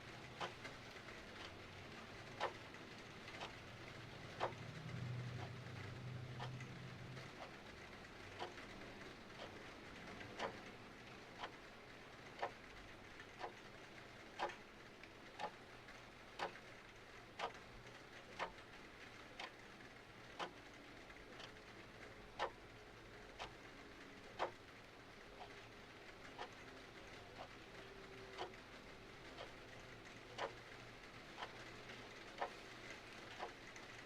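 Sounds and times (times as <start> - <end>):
faint rain hiss: 0.0 - 34.0
mechanical clock ticking: 0.0 - 34.0.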